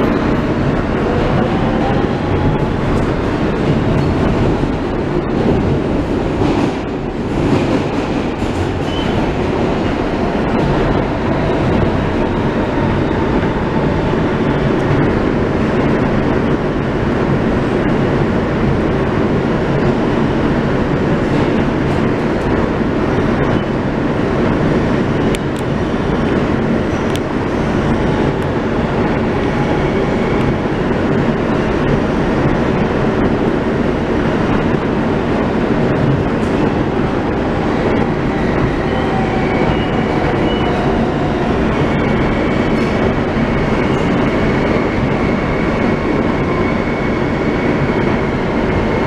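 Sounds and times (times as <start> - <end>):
subway wheels rumbling on rail: 0.0 - 49.0.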